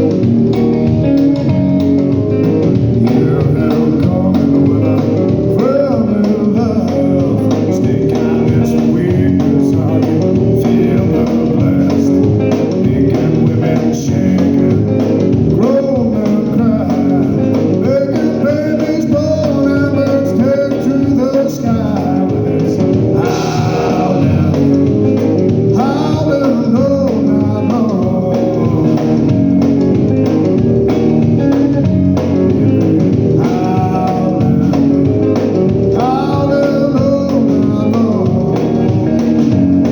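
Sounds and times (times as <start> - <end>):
bass: 0.0 - 39.9
blues guitar: 0.0 - 39.9
person singing: 2.6 - 29.8, 31.5 - 39.9.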